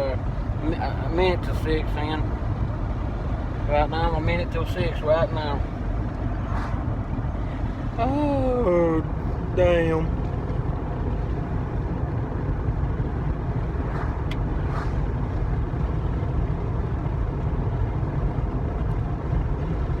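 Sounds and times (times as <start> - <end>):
car rumbling inside cabin: 0.0 - 20.0.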